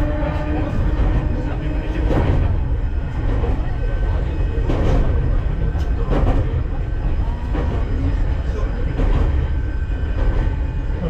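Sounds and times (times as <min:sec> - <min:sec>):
train rumbling on rails: 0:00.0 - 0:11.0
wheels clacking over rail joints: 0:00.0 - 0:11.0.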